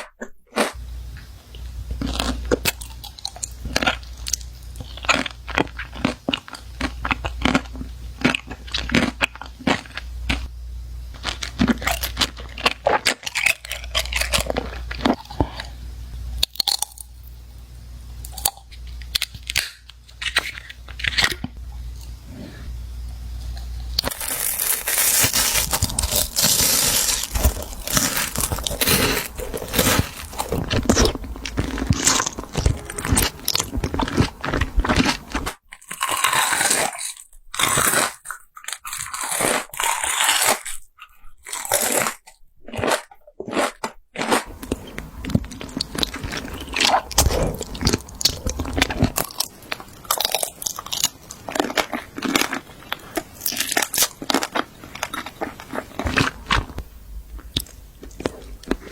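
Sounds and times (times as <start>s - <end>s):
chewing crisp food: 0.0s - 10.5s, 11.1s - 17.2s, 18.2s - 22.7s, 23.3s - 58.9s.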